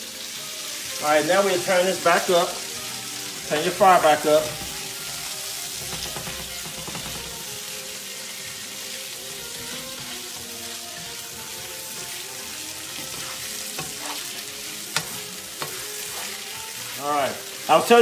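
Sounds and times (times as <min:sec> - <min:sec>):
shrimp sizzling in a skillet: 0:00.0 - 0:18.0
spatula turning food in pan: 0:00.1 - 0:18.0.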